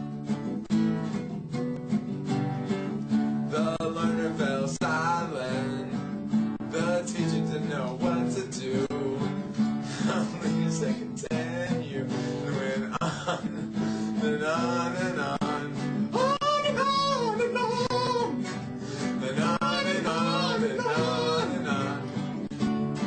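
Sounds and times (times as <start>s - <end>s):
classical guitar strumming chords: 0.0s - 23.0s.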